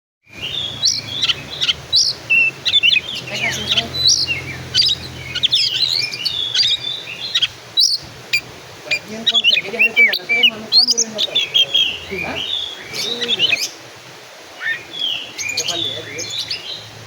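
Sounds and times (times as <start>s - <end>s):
songbird singing: 0.3s - 17.0s.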